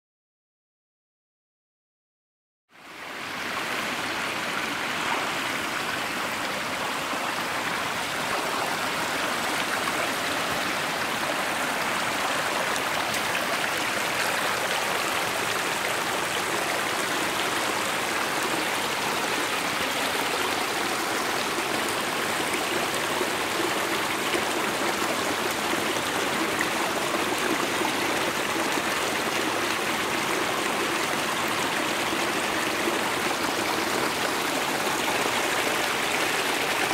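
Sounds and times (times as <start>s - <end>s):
stream rushing over rocks: 2.8s - 36.9s.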